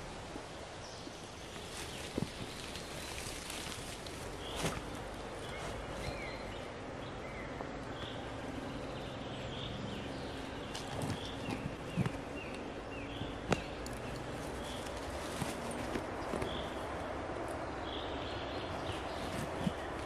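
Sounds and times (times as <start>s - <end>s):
steady background hiss: 0.0s - 20.0s
small birds chirping: 0.8s - 20.0s.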